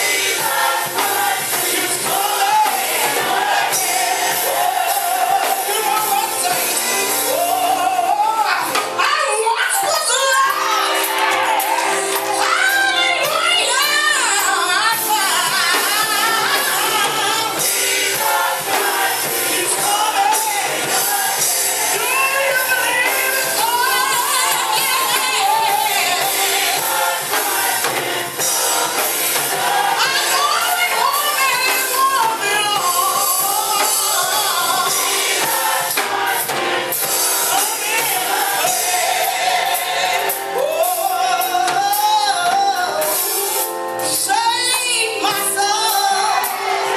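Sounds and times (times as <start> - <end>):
gospel choir singing: 0.0 - 46.9
instrumental accompaniment: 0.0 - 46.9
lead vocalist singing: 0.0 - 46.9.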